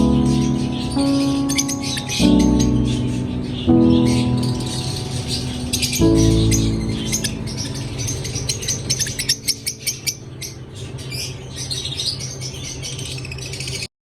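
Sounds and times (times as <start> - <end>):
steady low hum: 0.0 - 13.0
lovebirds chirping: 0.0 - 13.9.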